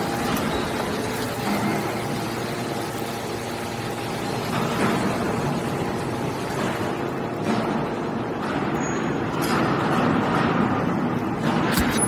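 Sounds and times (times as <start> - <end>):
hydraulic baler humming: 0.0 - 11.9.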